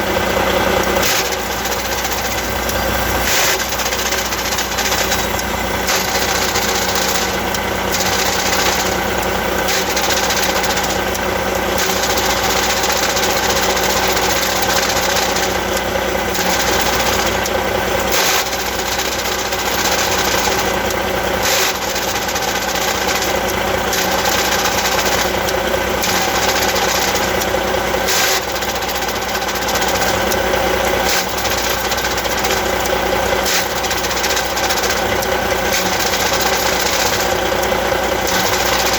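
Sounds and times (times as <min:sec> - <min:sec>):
abnormal clutch mechanical noise: 0:00.0 - 0:38.9
truck diesel engine running: 0:00.0 - 0:38.9.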